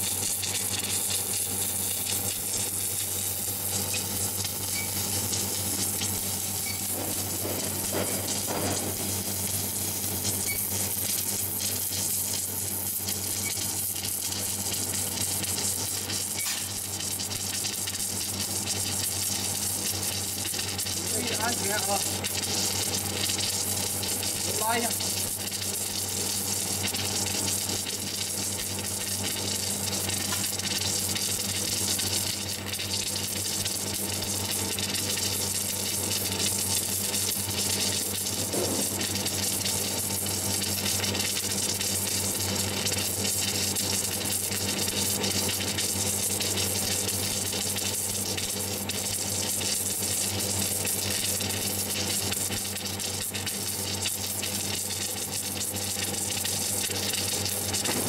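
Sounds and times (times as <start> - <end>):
low electrical hum: 0.0 - 58.0
welding arc hissing: 0.0 - 58.0.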